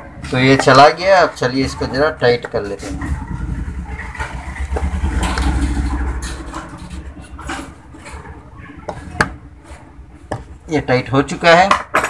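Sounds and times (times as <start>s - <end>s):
low uneven rumble: 1.3s - 11.4s.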